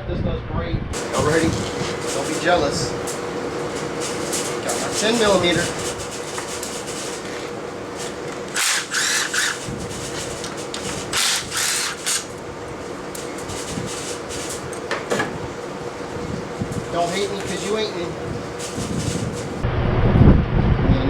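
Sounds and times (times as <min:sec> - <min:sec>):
cordless power tool running: 0:01.0 - 0:19.6.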